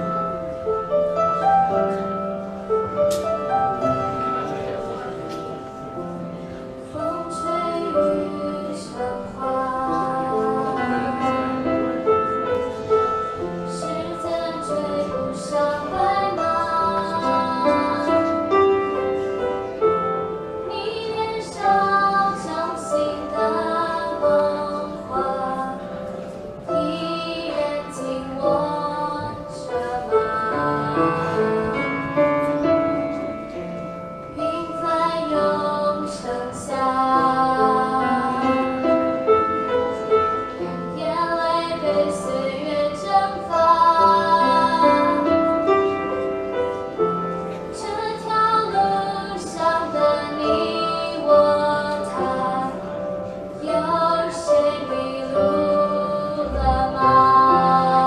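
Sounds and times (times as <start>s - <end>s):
instrumental accompaniment: 0.0s - 58.0s.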